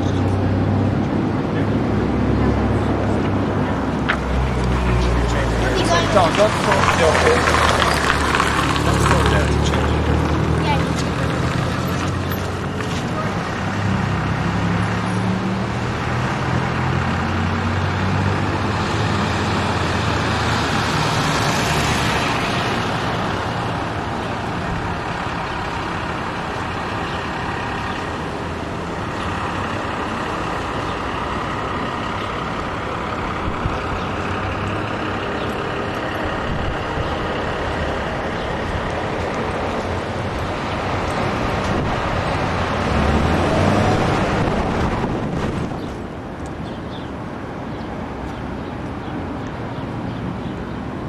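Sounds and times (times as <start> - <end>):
vehicle passing: 0.0 - 46.8
steady traffic noise: 0.0 - 51.0
vehicle engine humming: 0.0 - 51.0.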